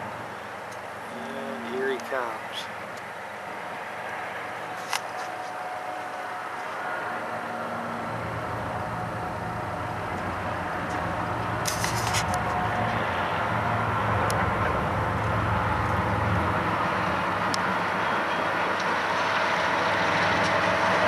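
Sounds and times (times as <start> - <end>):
diesel locomotive engines humming: 0.0 - 21.0.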